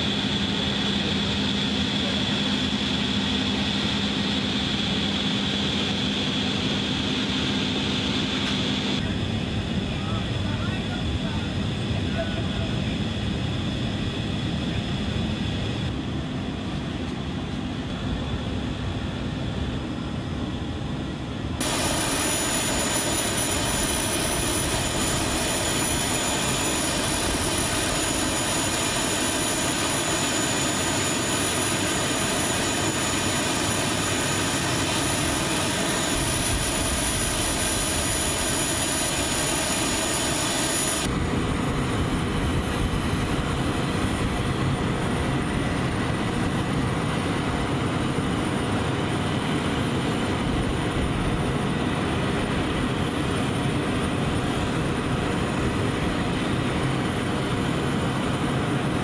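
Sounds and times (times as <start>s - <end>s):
high-pitched turbine whine: 0.0s - 59.0s
turboprop engines droning: 0.0s - 59.0s.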